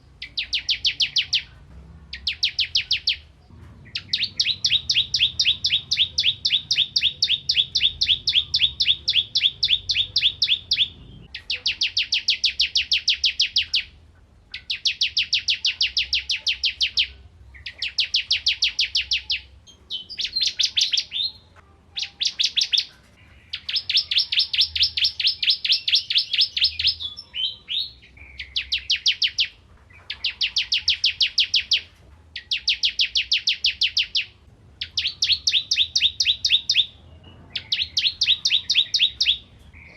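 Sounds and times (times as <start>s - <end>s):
bird singing rapid high notes: 0.0s - 1.5s, 2.1s - 39.9s.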